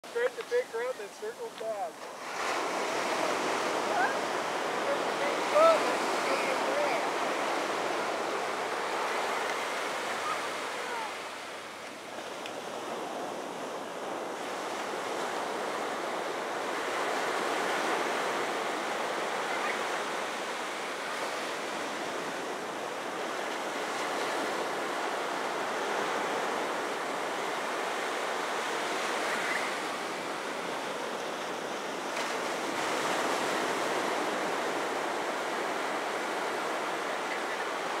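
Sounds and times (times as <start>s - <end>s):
small waves breaking: 0.1s - 38.0s.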